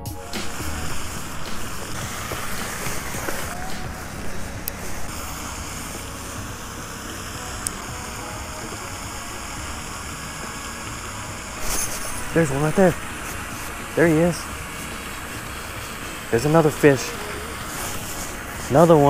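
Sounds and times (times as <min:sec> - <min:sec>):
faint background music: 0:00.0 - 0:19.0
steady rushing outdoor noise: 0:00.0 - 0:19.0.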